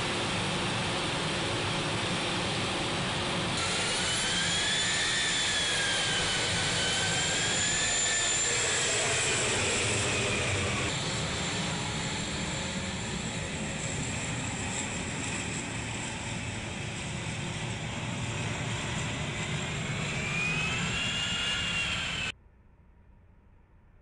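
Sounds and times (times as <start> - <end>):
jet engines whining: 0.0 - 22.4.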